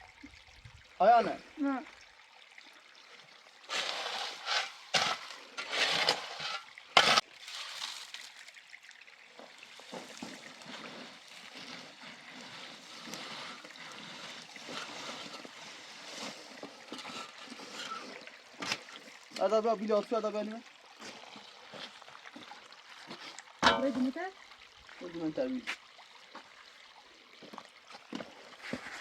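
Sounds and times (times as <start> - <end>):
water splashing: 0.0 - 29.0
water trickling: 0.0 - 29.0.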